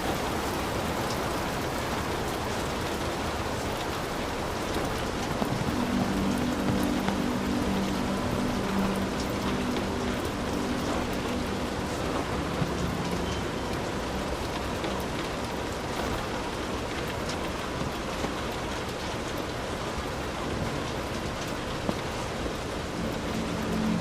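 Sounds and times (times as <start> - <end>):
heavy rain on a roof: 0.0 - 24.0
raindrops ticking: 0.0 - 24.0.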